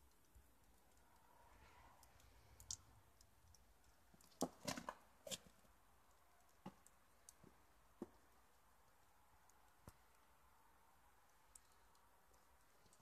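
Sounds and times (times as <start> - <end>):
faint sharp clicks and crunches: 0.0 - 10.4, 11.2 - 13.0.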